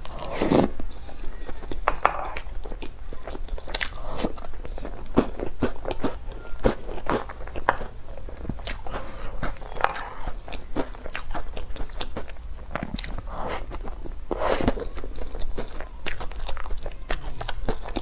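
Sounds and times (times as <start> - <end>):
chewing crunchy food: 0.0 - 18.0.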